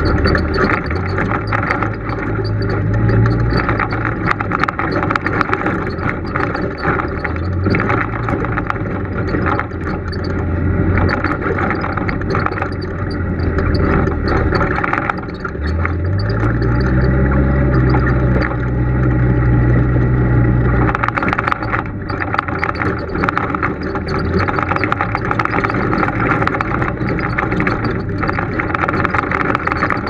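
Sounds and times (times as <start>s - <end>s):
off-road vehicle engine running: 0.0s - 30.0s
rattles and knocks from vehicle: 0.0s - 30.0s.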